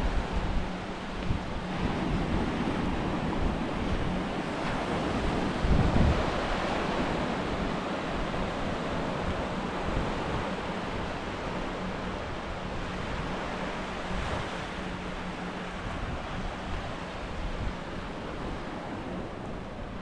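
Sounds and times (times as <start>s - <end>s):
surf washing up beach: 0.0s - 20.0s
wind buffeting microphone: 0.0s - 20.0s.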